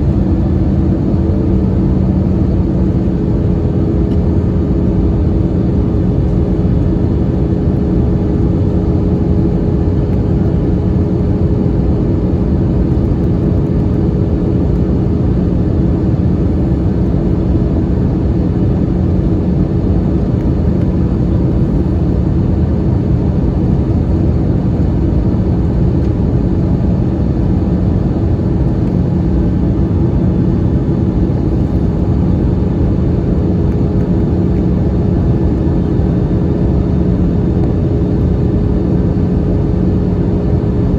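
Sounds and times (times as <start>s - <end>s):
airliner cabin rumble: 0.0s - 40.9s
steady low hum: 0.0s - 40.9s.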